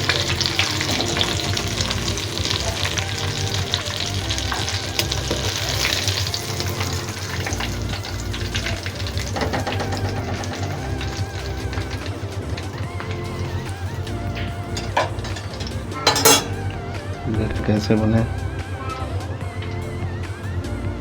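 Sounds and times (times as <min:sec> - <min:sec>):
food deep-frying in hot oil: 0:00.0 - 0:16.8.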